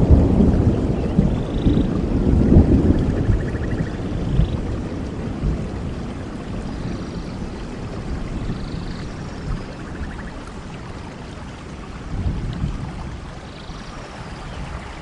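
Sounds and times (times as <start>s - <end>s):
thunder rumbling: 0.0s - 13.5s
steady rain: 0.0s - 15.0s.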